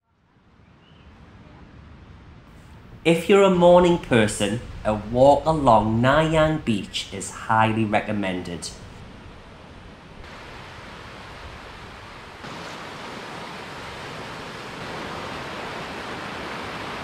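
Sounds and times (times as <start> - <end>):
waves breaking on a beach: 3.2 - 17.0.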